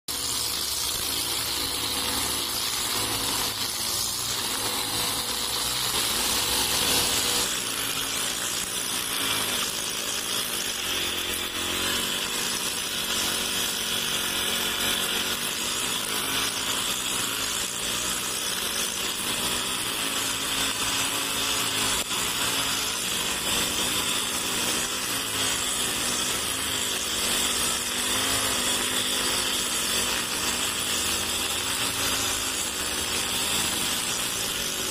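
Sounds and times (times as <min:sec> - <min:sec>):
brush cutter engine running: 0:00.1 - 0:34.9
trimmer line whirring through grass: 0:00.1 - 0:34.9.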